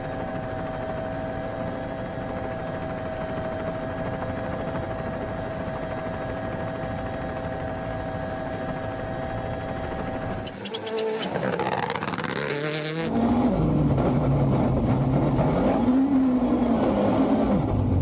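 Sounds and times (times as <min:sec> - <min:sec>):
helicopter turbine whine and rotor chop: 0:00.0 - 0:15.1.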